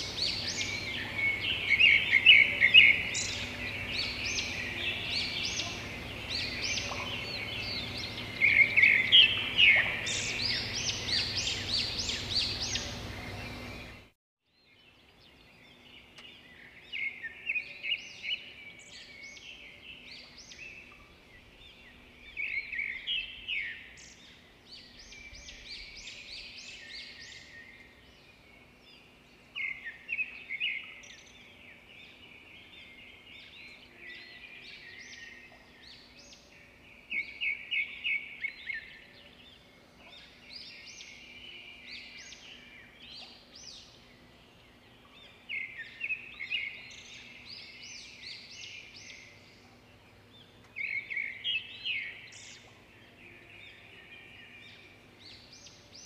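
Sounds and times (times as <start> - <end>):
faint steady hum: 0.0 - 14.1, 14.8 - 56.0
birds chirping: 0.0 - 56.0.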